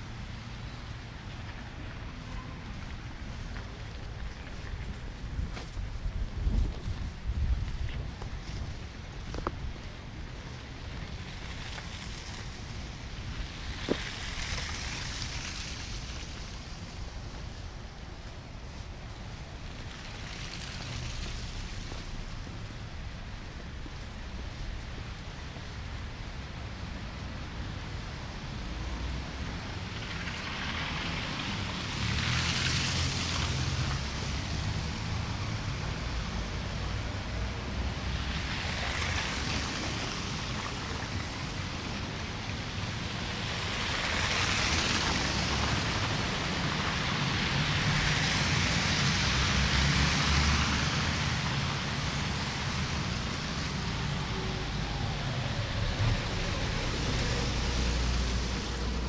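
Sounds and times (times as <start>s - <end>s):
cars passing on slushy road: 0.0s - 59.0s
low street rumble: 0.0s - 59.0s.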